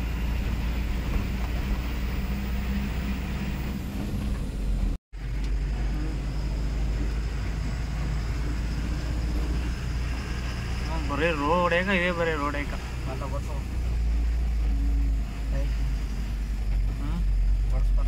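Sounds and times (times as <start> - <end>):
truck engine drone inside cab: 0.0 - 18.0.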